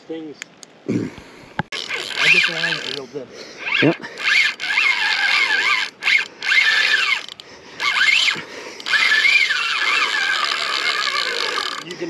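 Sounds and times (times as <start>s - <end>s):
fishing reel drag screaming: 1.8s - 12.0s.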